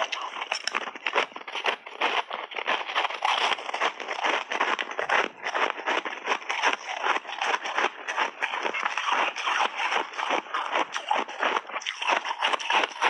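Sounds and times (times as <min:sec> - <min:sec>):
crunching frozen berries: 0:00.0 - 0:13.0.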